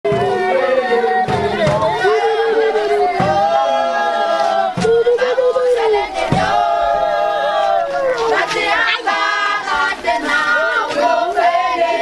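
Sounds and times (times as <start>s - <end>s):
group singing unaccompanied: 0.1s - 12.0s.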